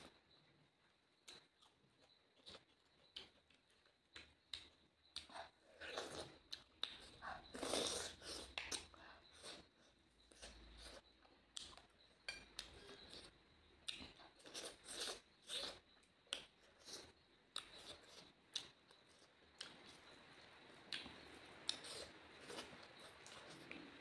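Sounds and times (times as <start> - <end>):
faint close-up chewing: 0.0 - 24.0.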